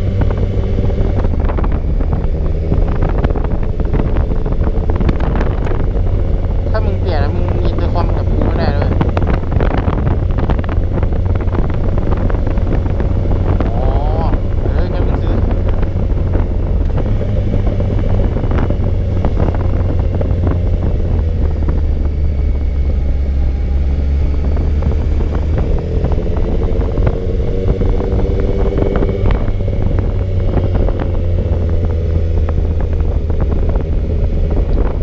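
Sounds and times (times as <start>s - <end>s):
motorcycle engine cruising: 0.0s - 35.0s
wind rush: 0.0s - 35.0s.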